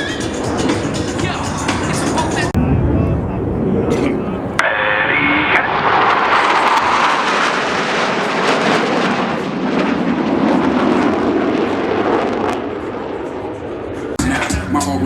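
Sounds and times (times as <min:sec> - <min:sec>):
jets passing with crackling roar: 0:00.0 - 0:14.2.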